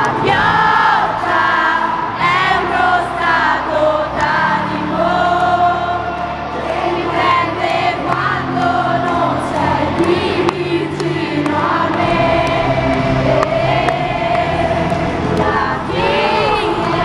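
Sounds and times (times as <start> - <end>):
crowd singing along: 0.0 - 17.0.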